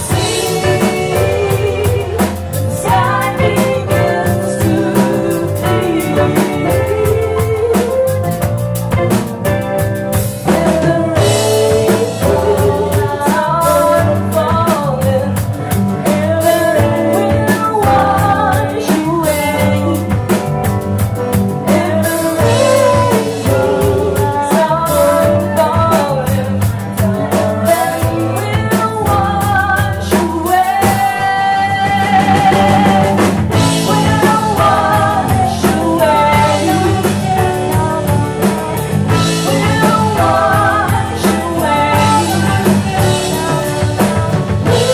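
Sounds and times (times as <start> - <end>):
rock song with singing: 0.0 - 44.9.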